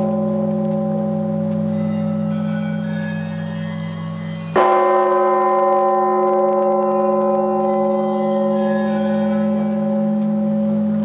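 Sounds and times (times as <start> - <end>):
church bell ringing: 0.0 - 11.0.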